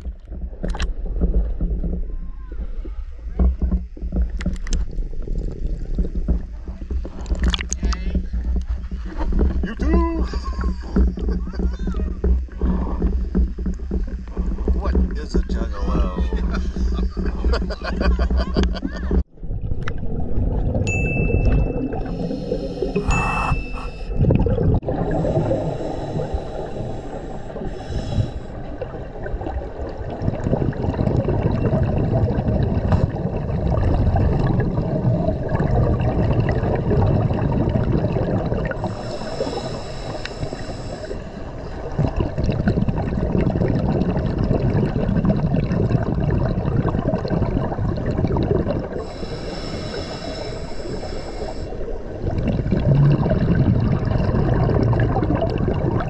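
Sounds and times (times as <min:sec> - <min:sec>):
underwater bubbles gurgling: 0:00.0 - 0:56.0.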